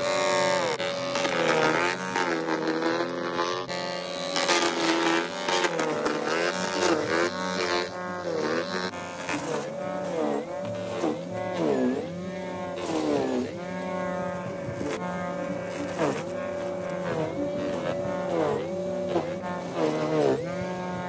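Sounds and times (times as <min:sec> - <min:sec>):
snowblower electric motor whining: 0:00.0 - 0:21.0.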